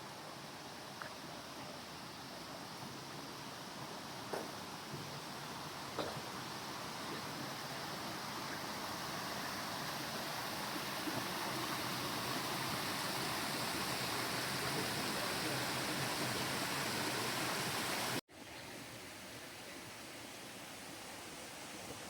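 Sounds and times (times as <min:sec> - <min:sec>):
stream water rushing: 0:00.0 - 0:18.2.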